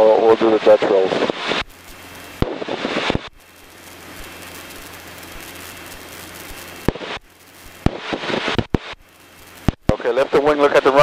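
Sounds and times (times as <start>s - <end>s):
aircraft engine drone: 0.0s - 11.0s
cockpit rushing hiss: 1.0s - 11.0s.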